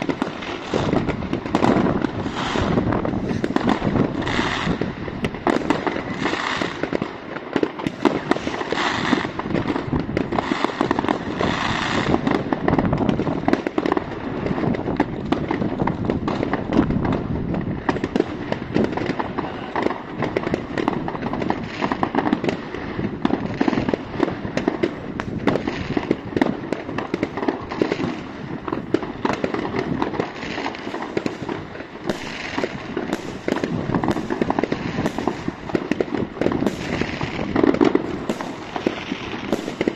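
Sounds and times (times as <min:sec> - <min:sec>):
firecracker bangs and crackling: 0:00.0 - 0:39.9.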